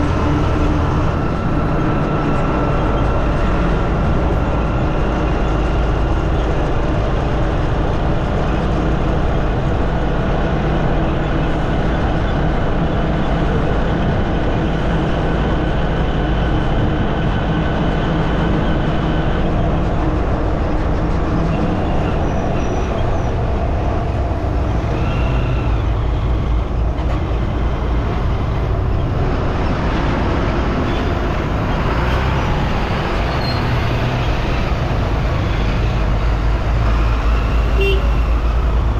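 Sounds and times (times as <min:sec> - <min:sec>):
vehicle engine hum: 0:00.0 - 0:38.9
wind rumble on microphone: 0:00.0 - 0:38.9.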